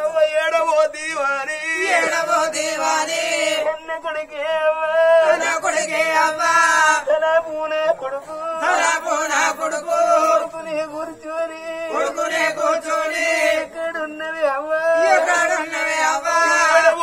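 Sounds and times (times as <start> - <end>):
voices chanting a melody: 1.0 - 17.0.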